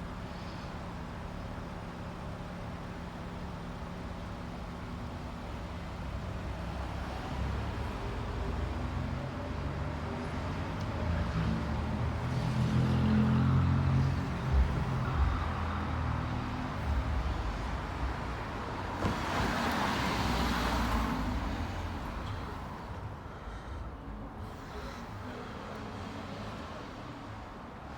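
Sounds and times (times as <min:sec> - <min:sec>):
heavy vehicle engine rumble: 0:00.0 - 0:27.9
tyre and road noise: 0:00.0 - 0:27.9.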